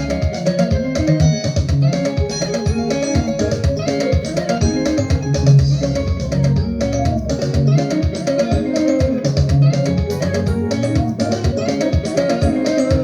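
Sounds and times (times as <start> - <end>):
praise music with guitar and drums: 0.0 - 13.0.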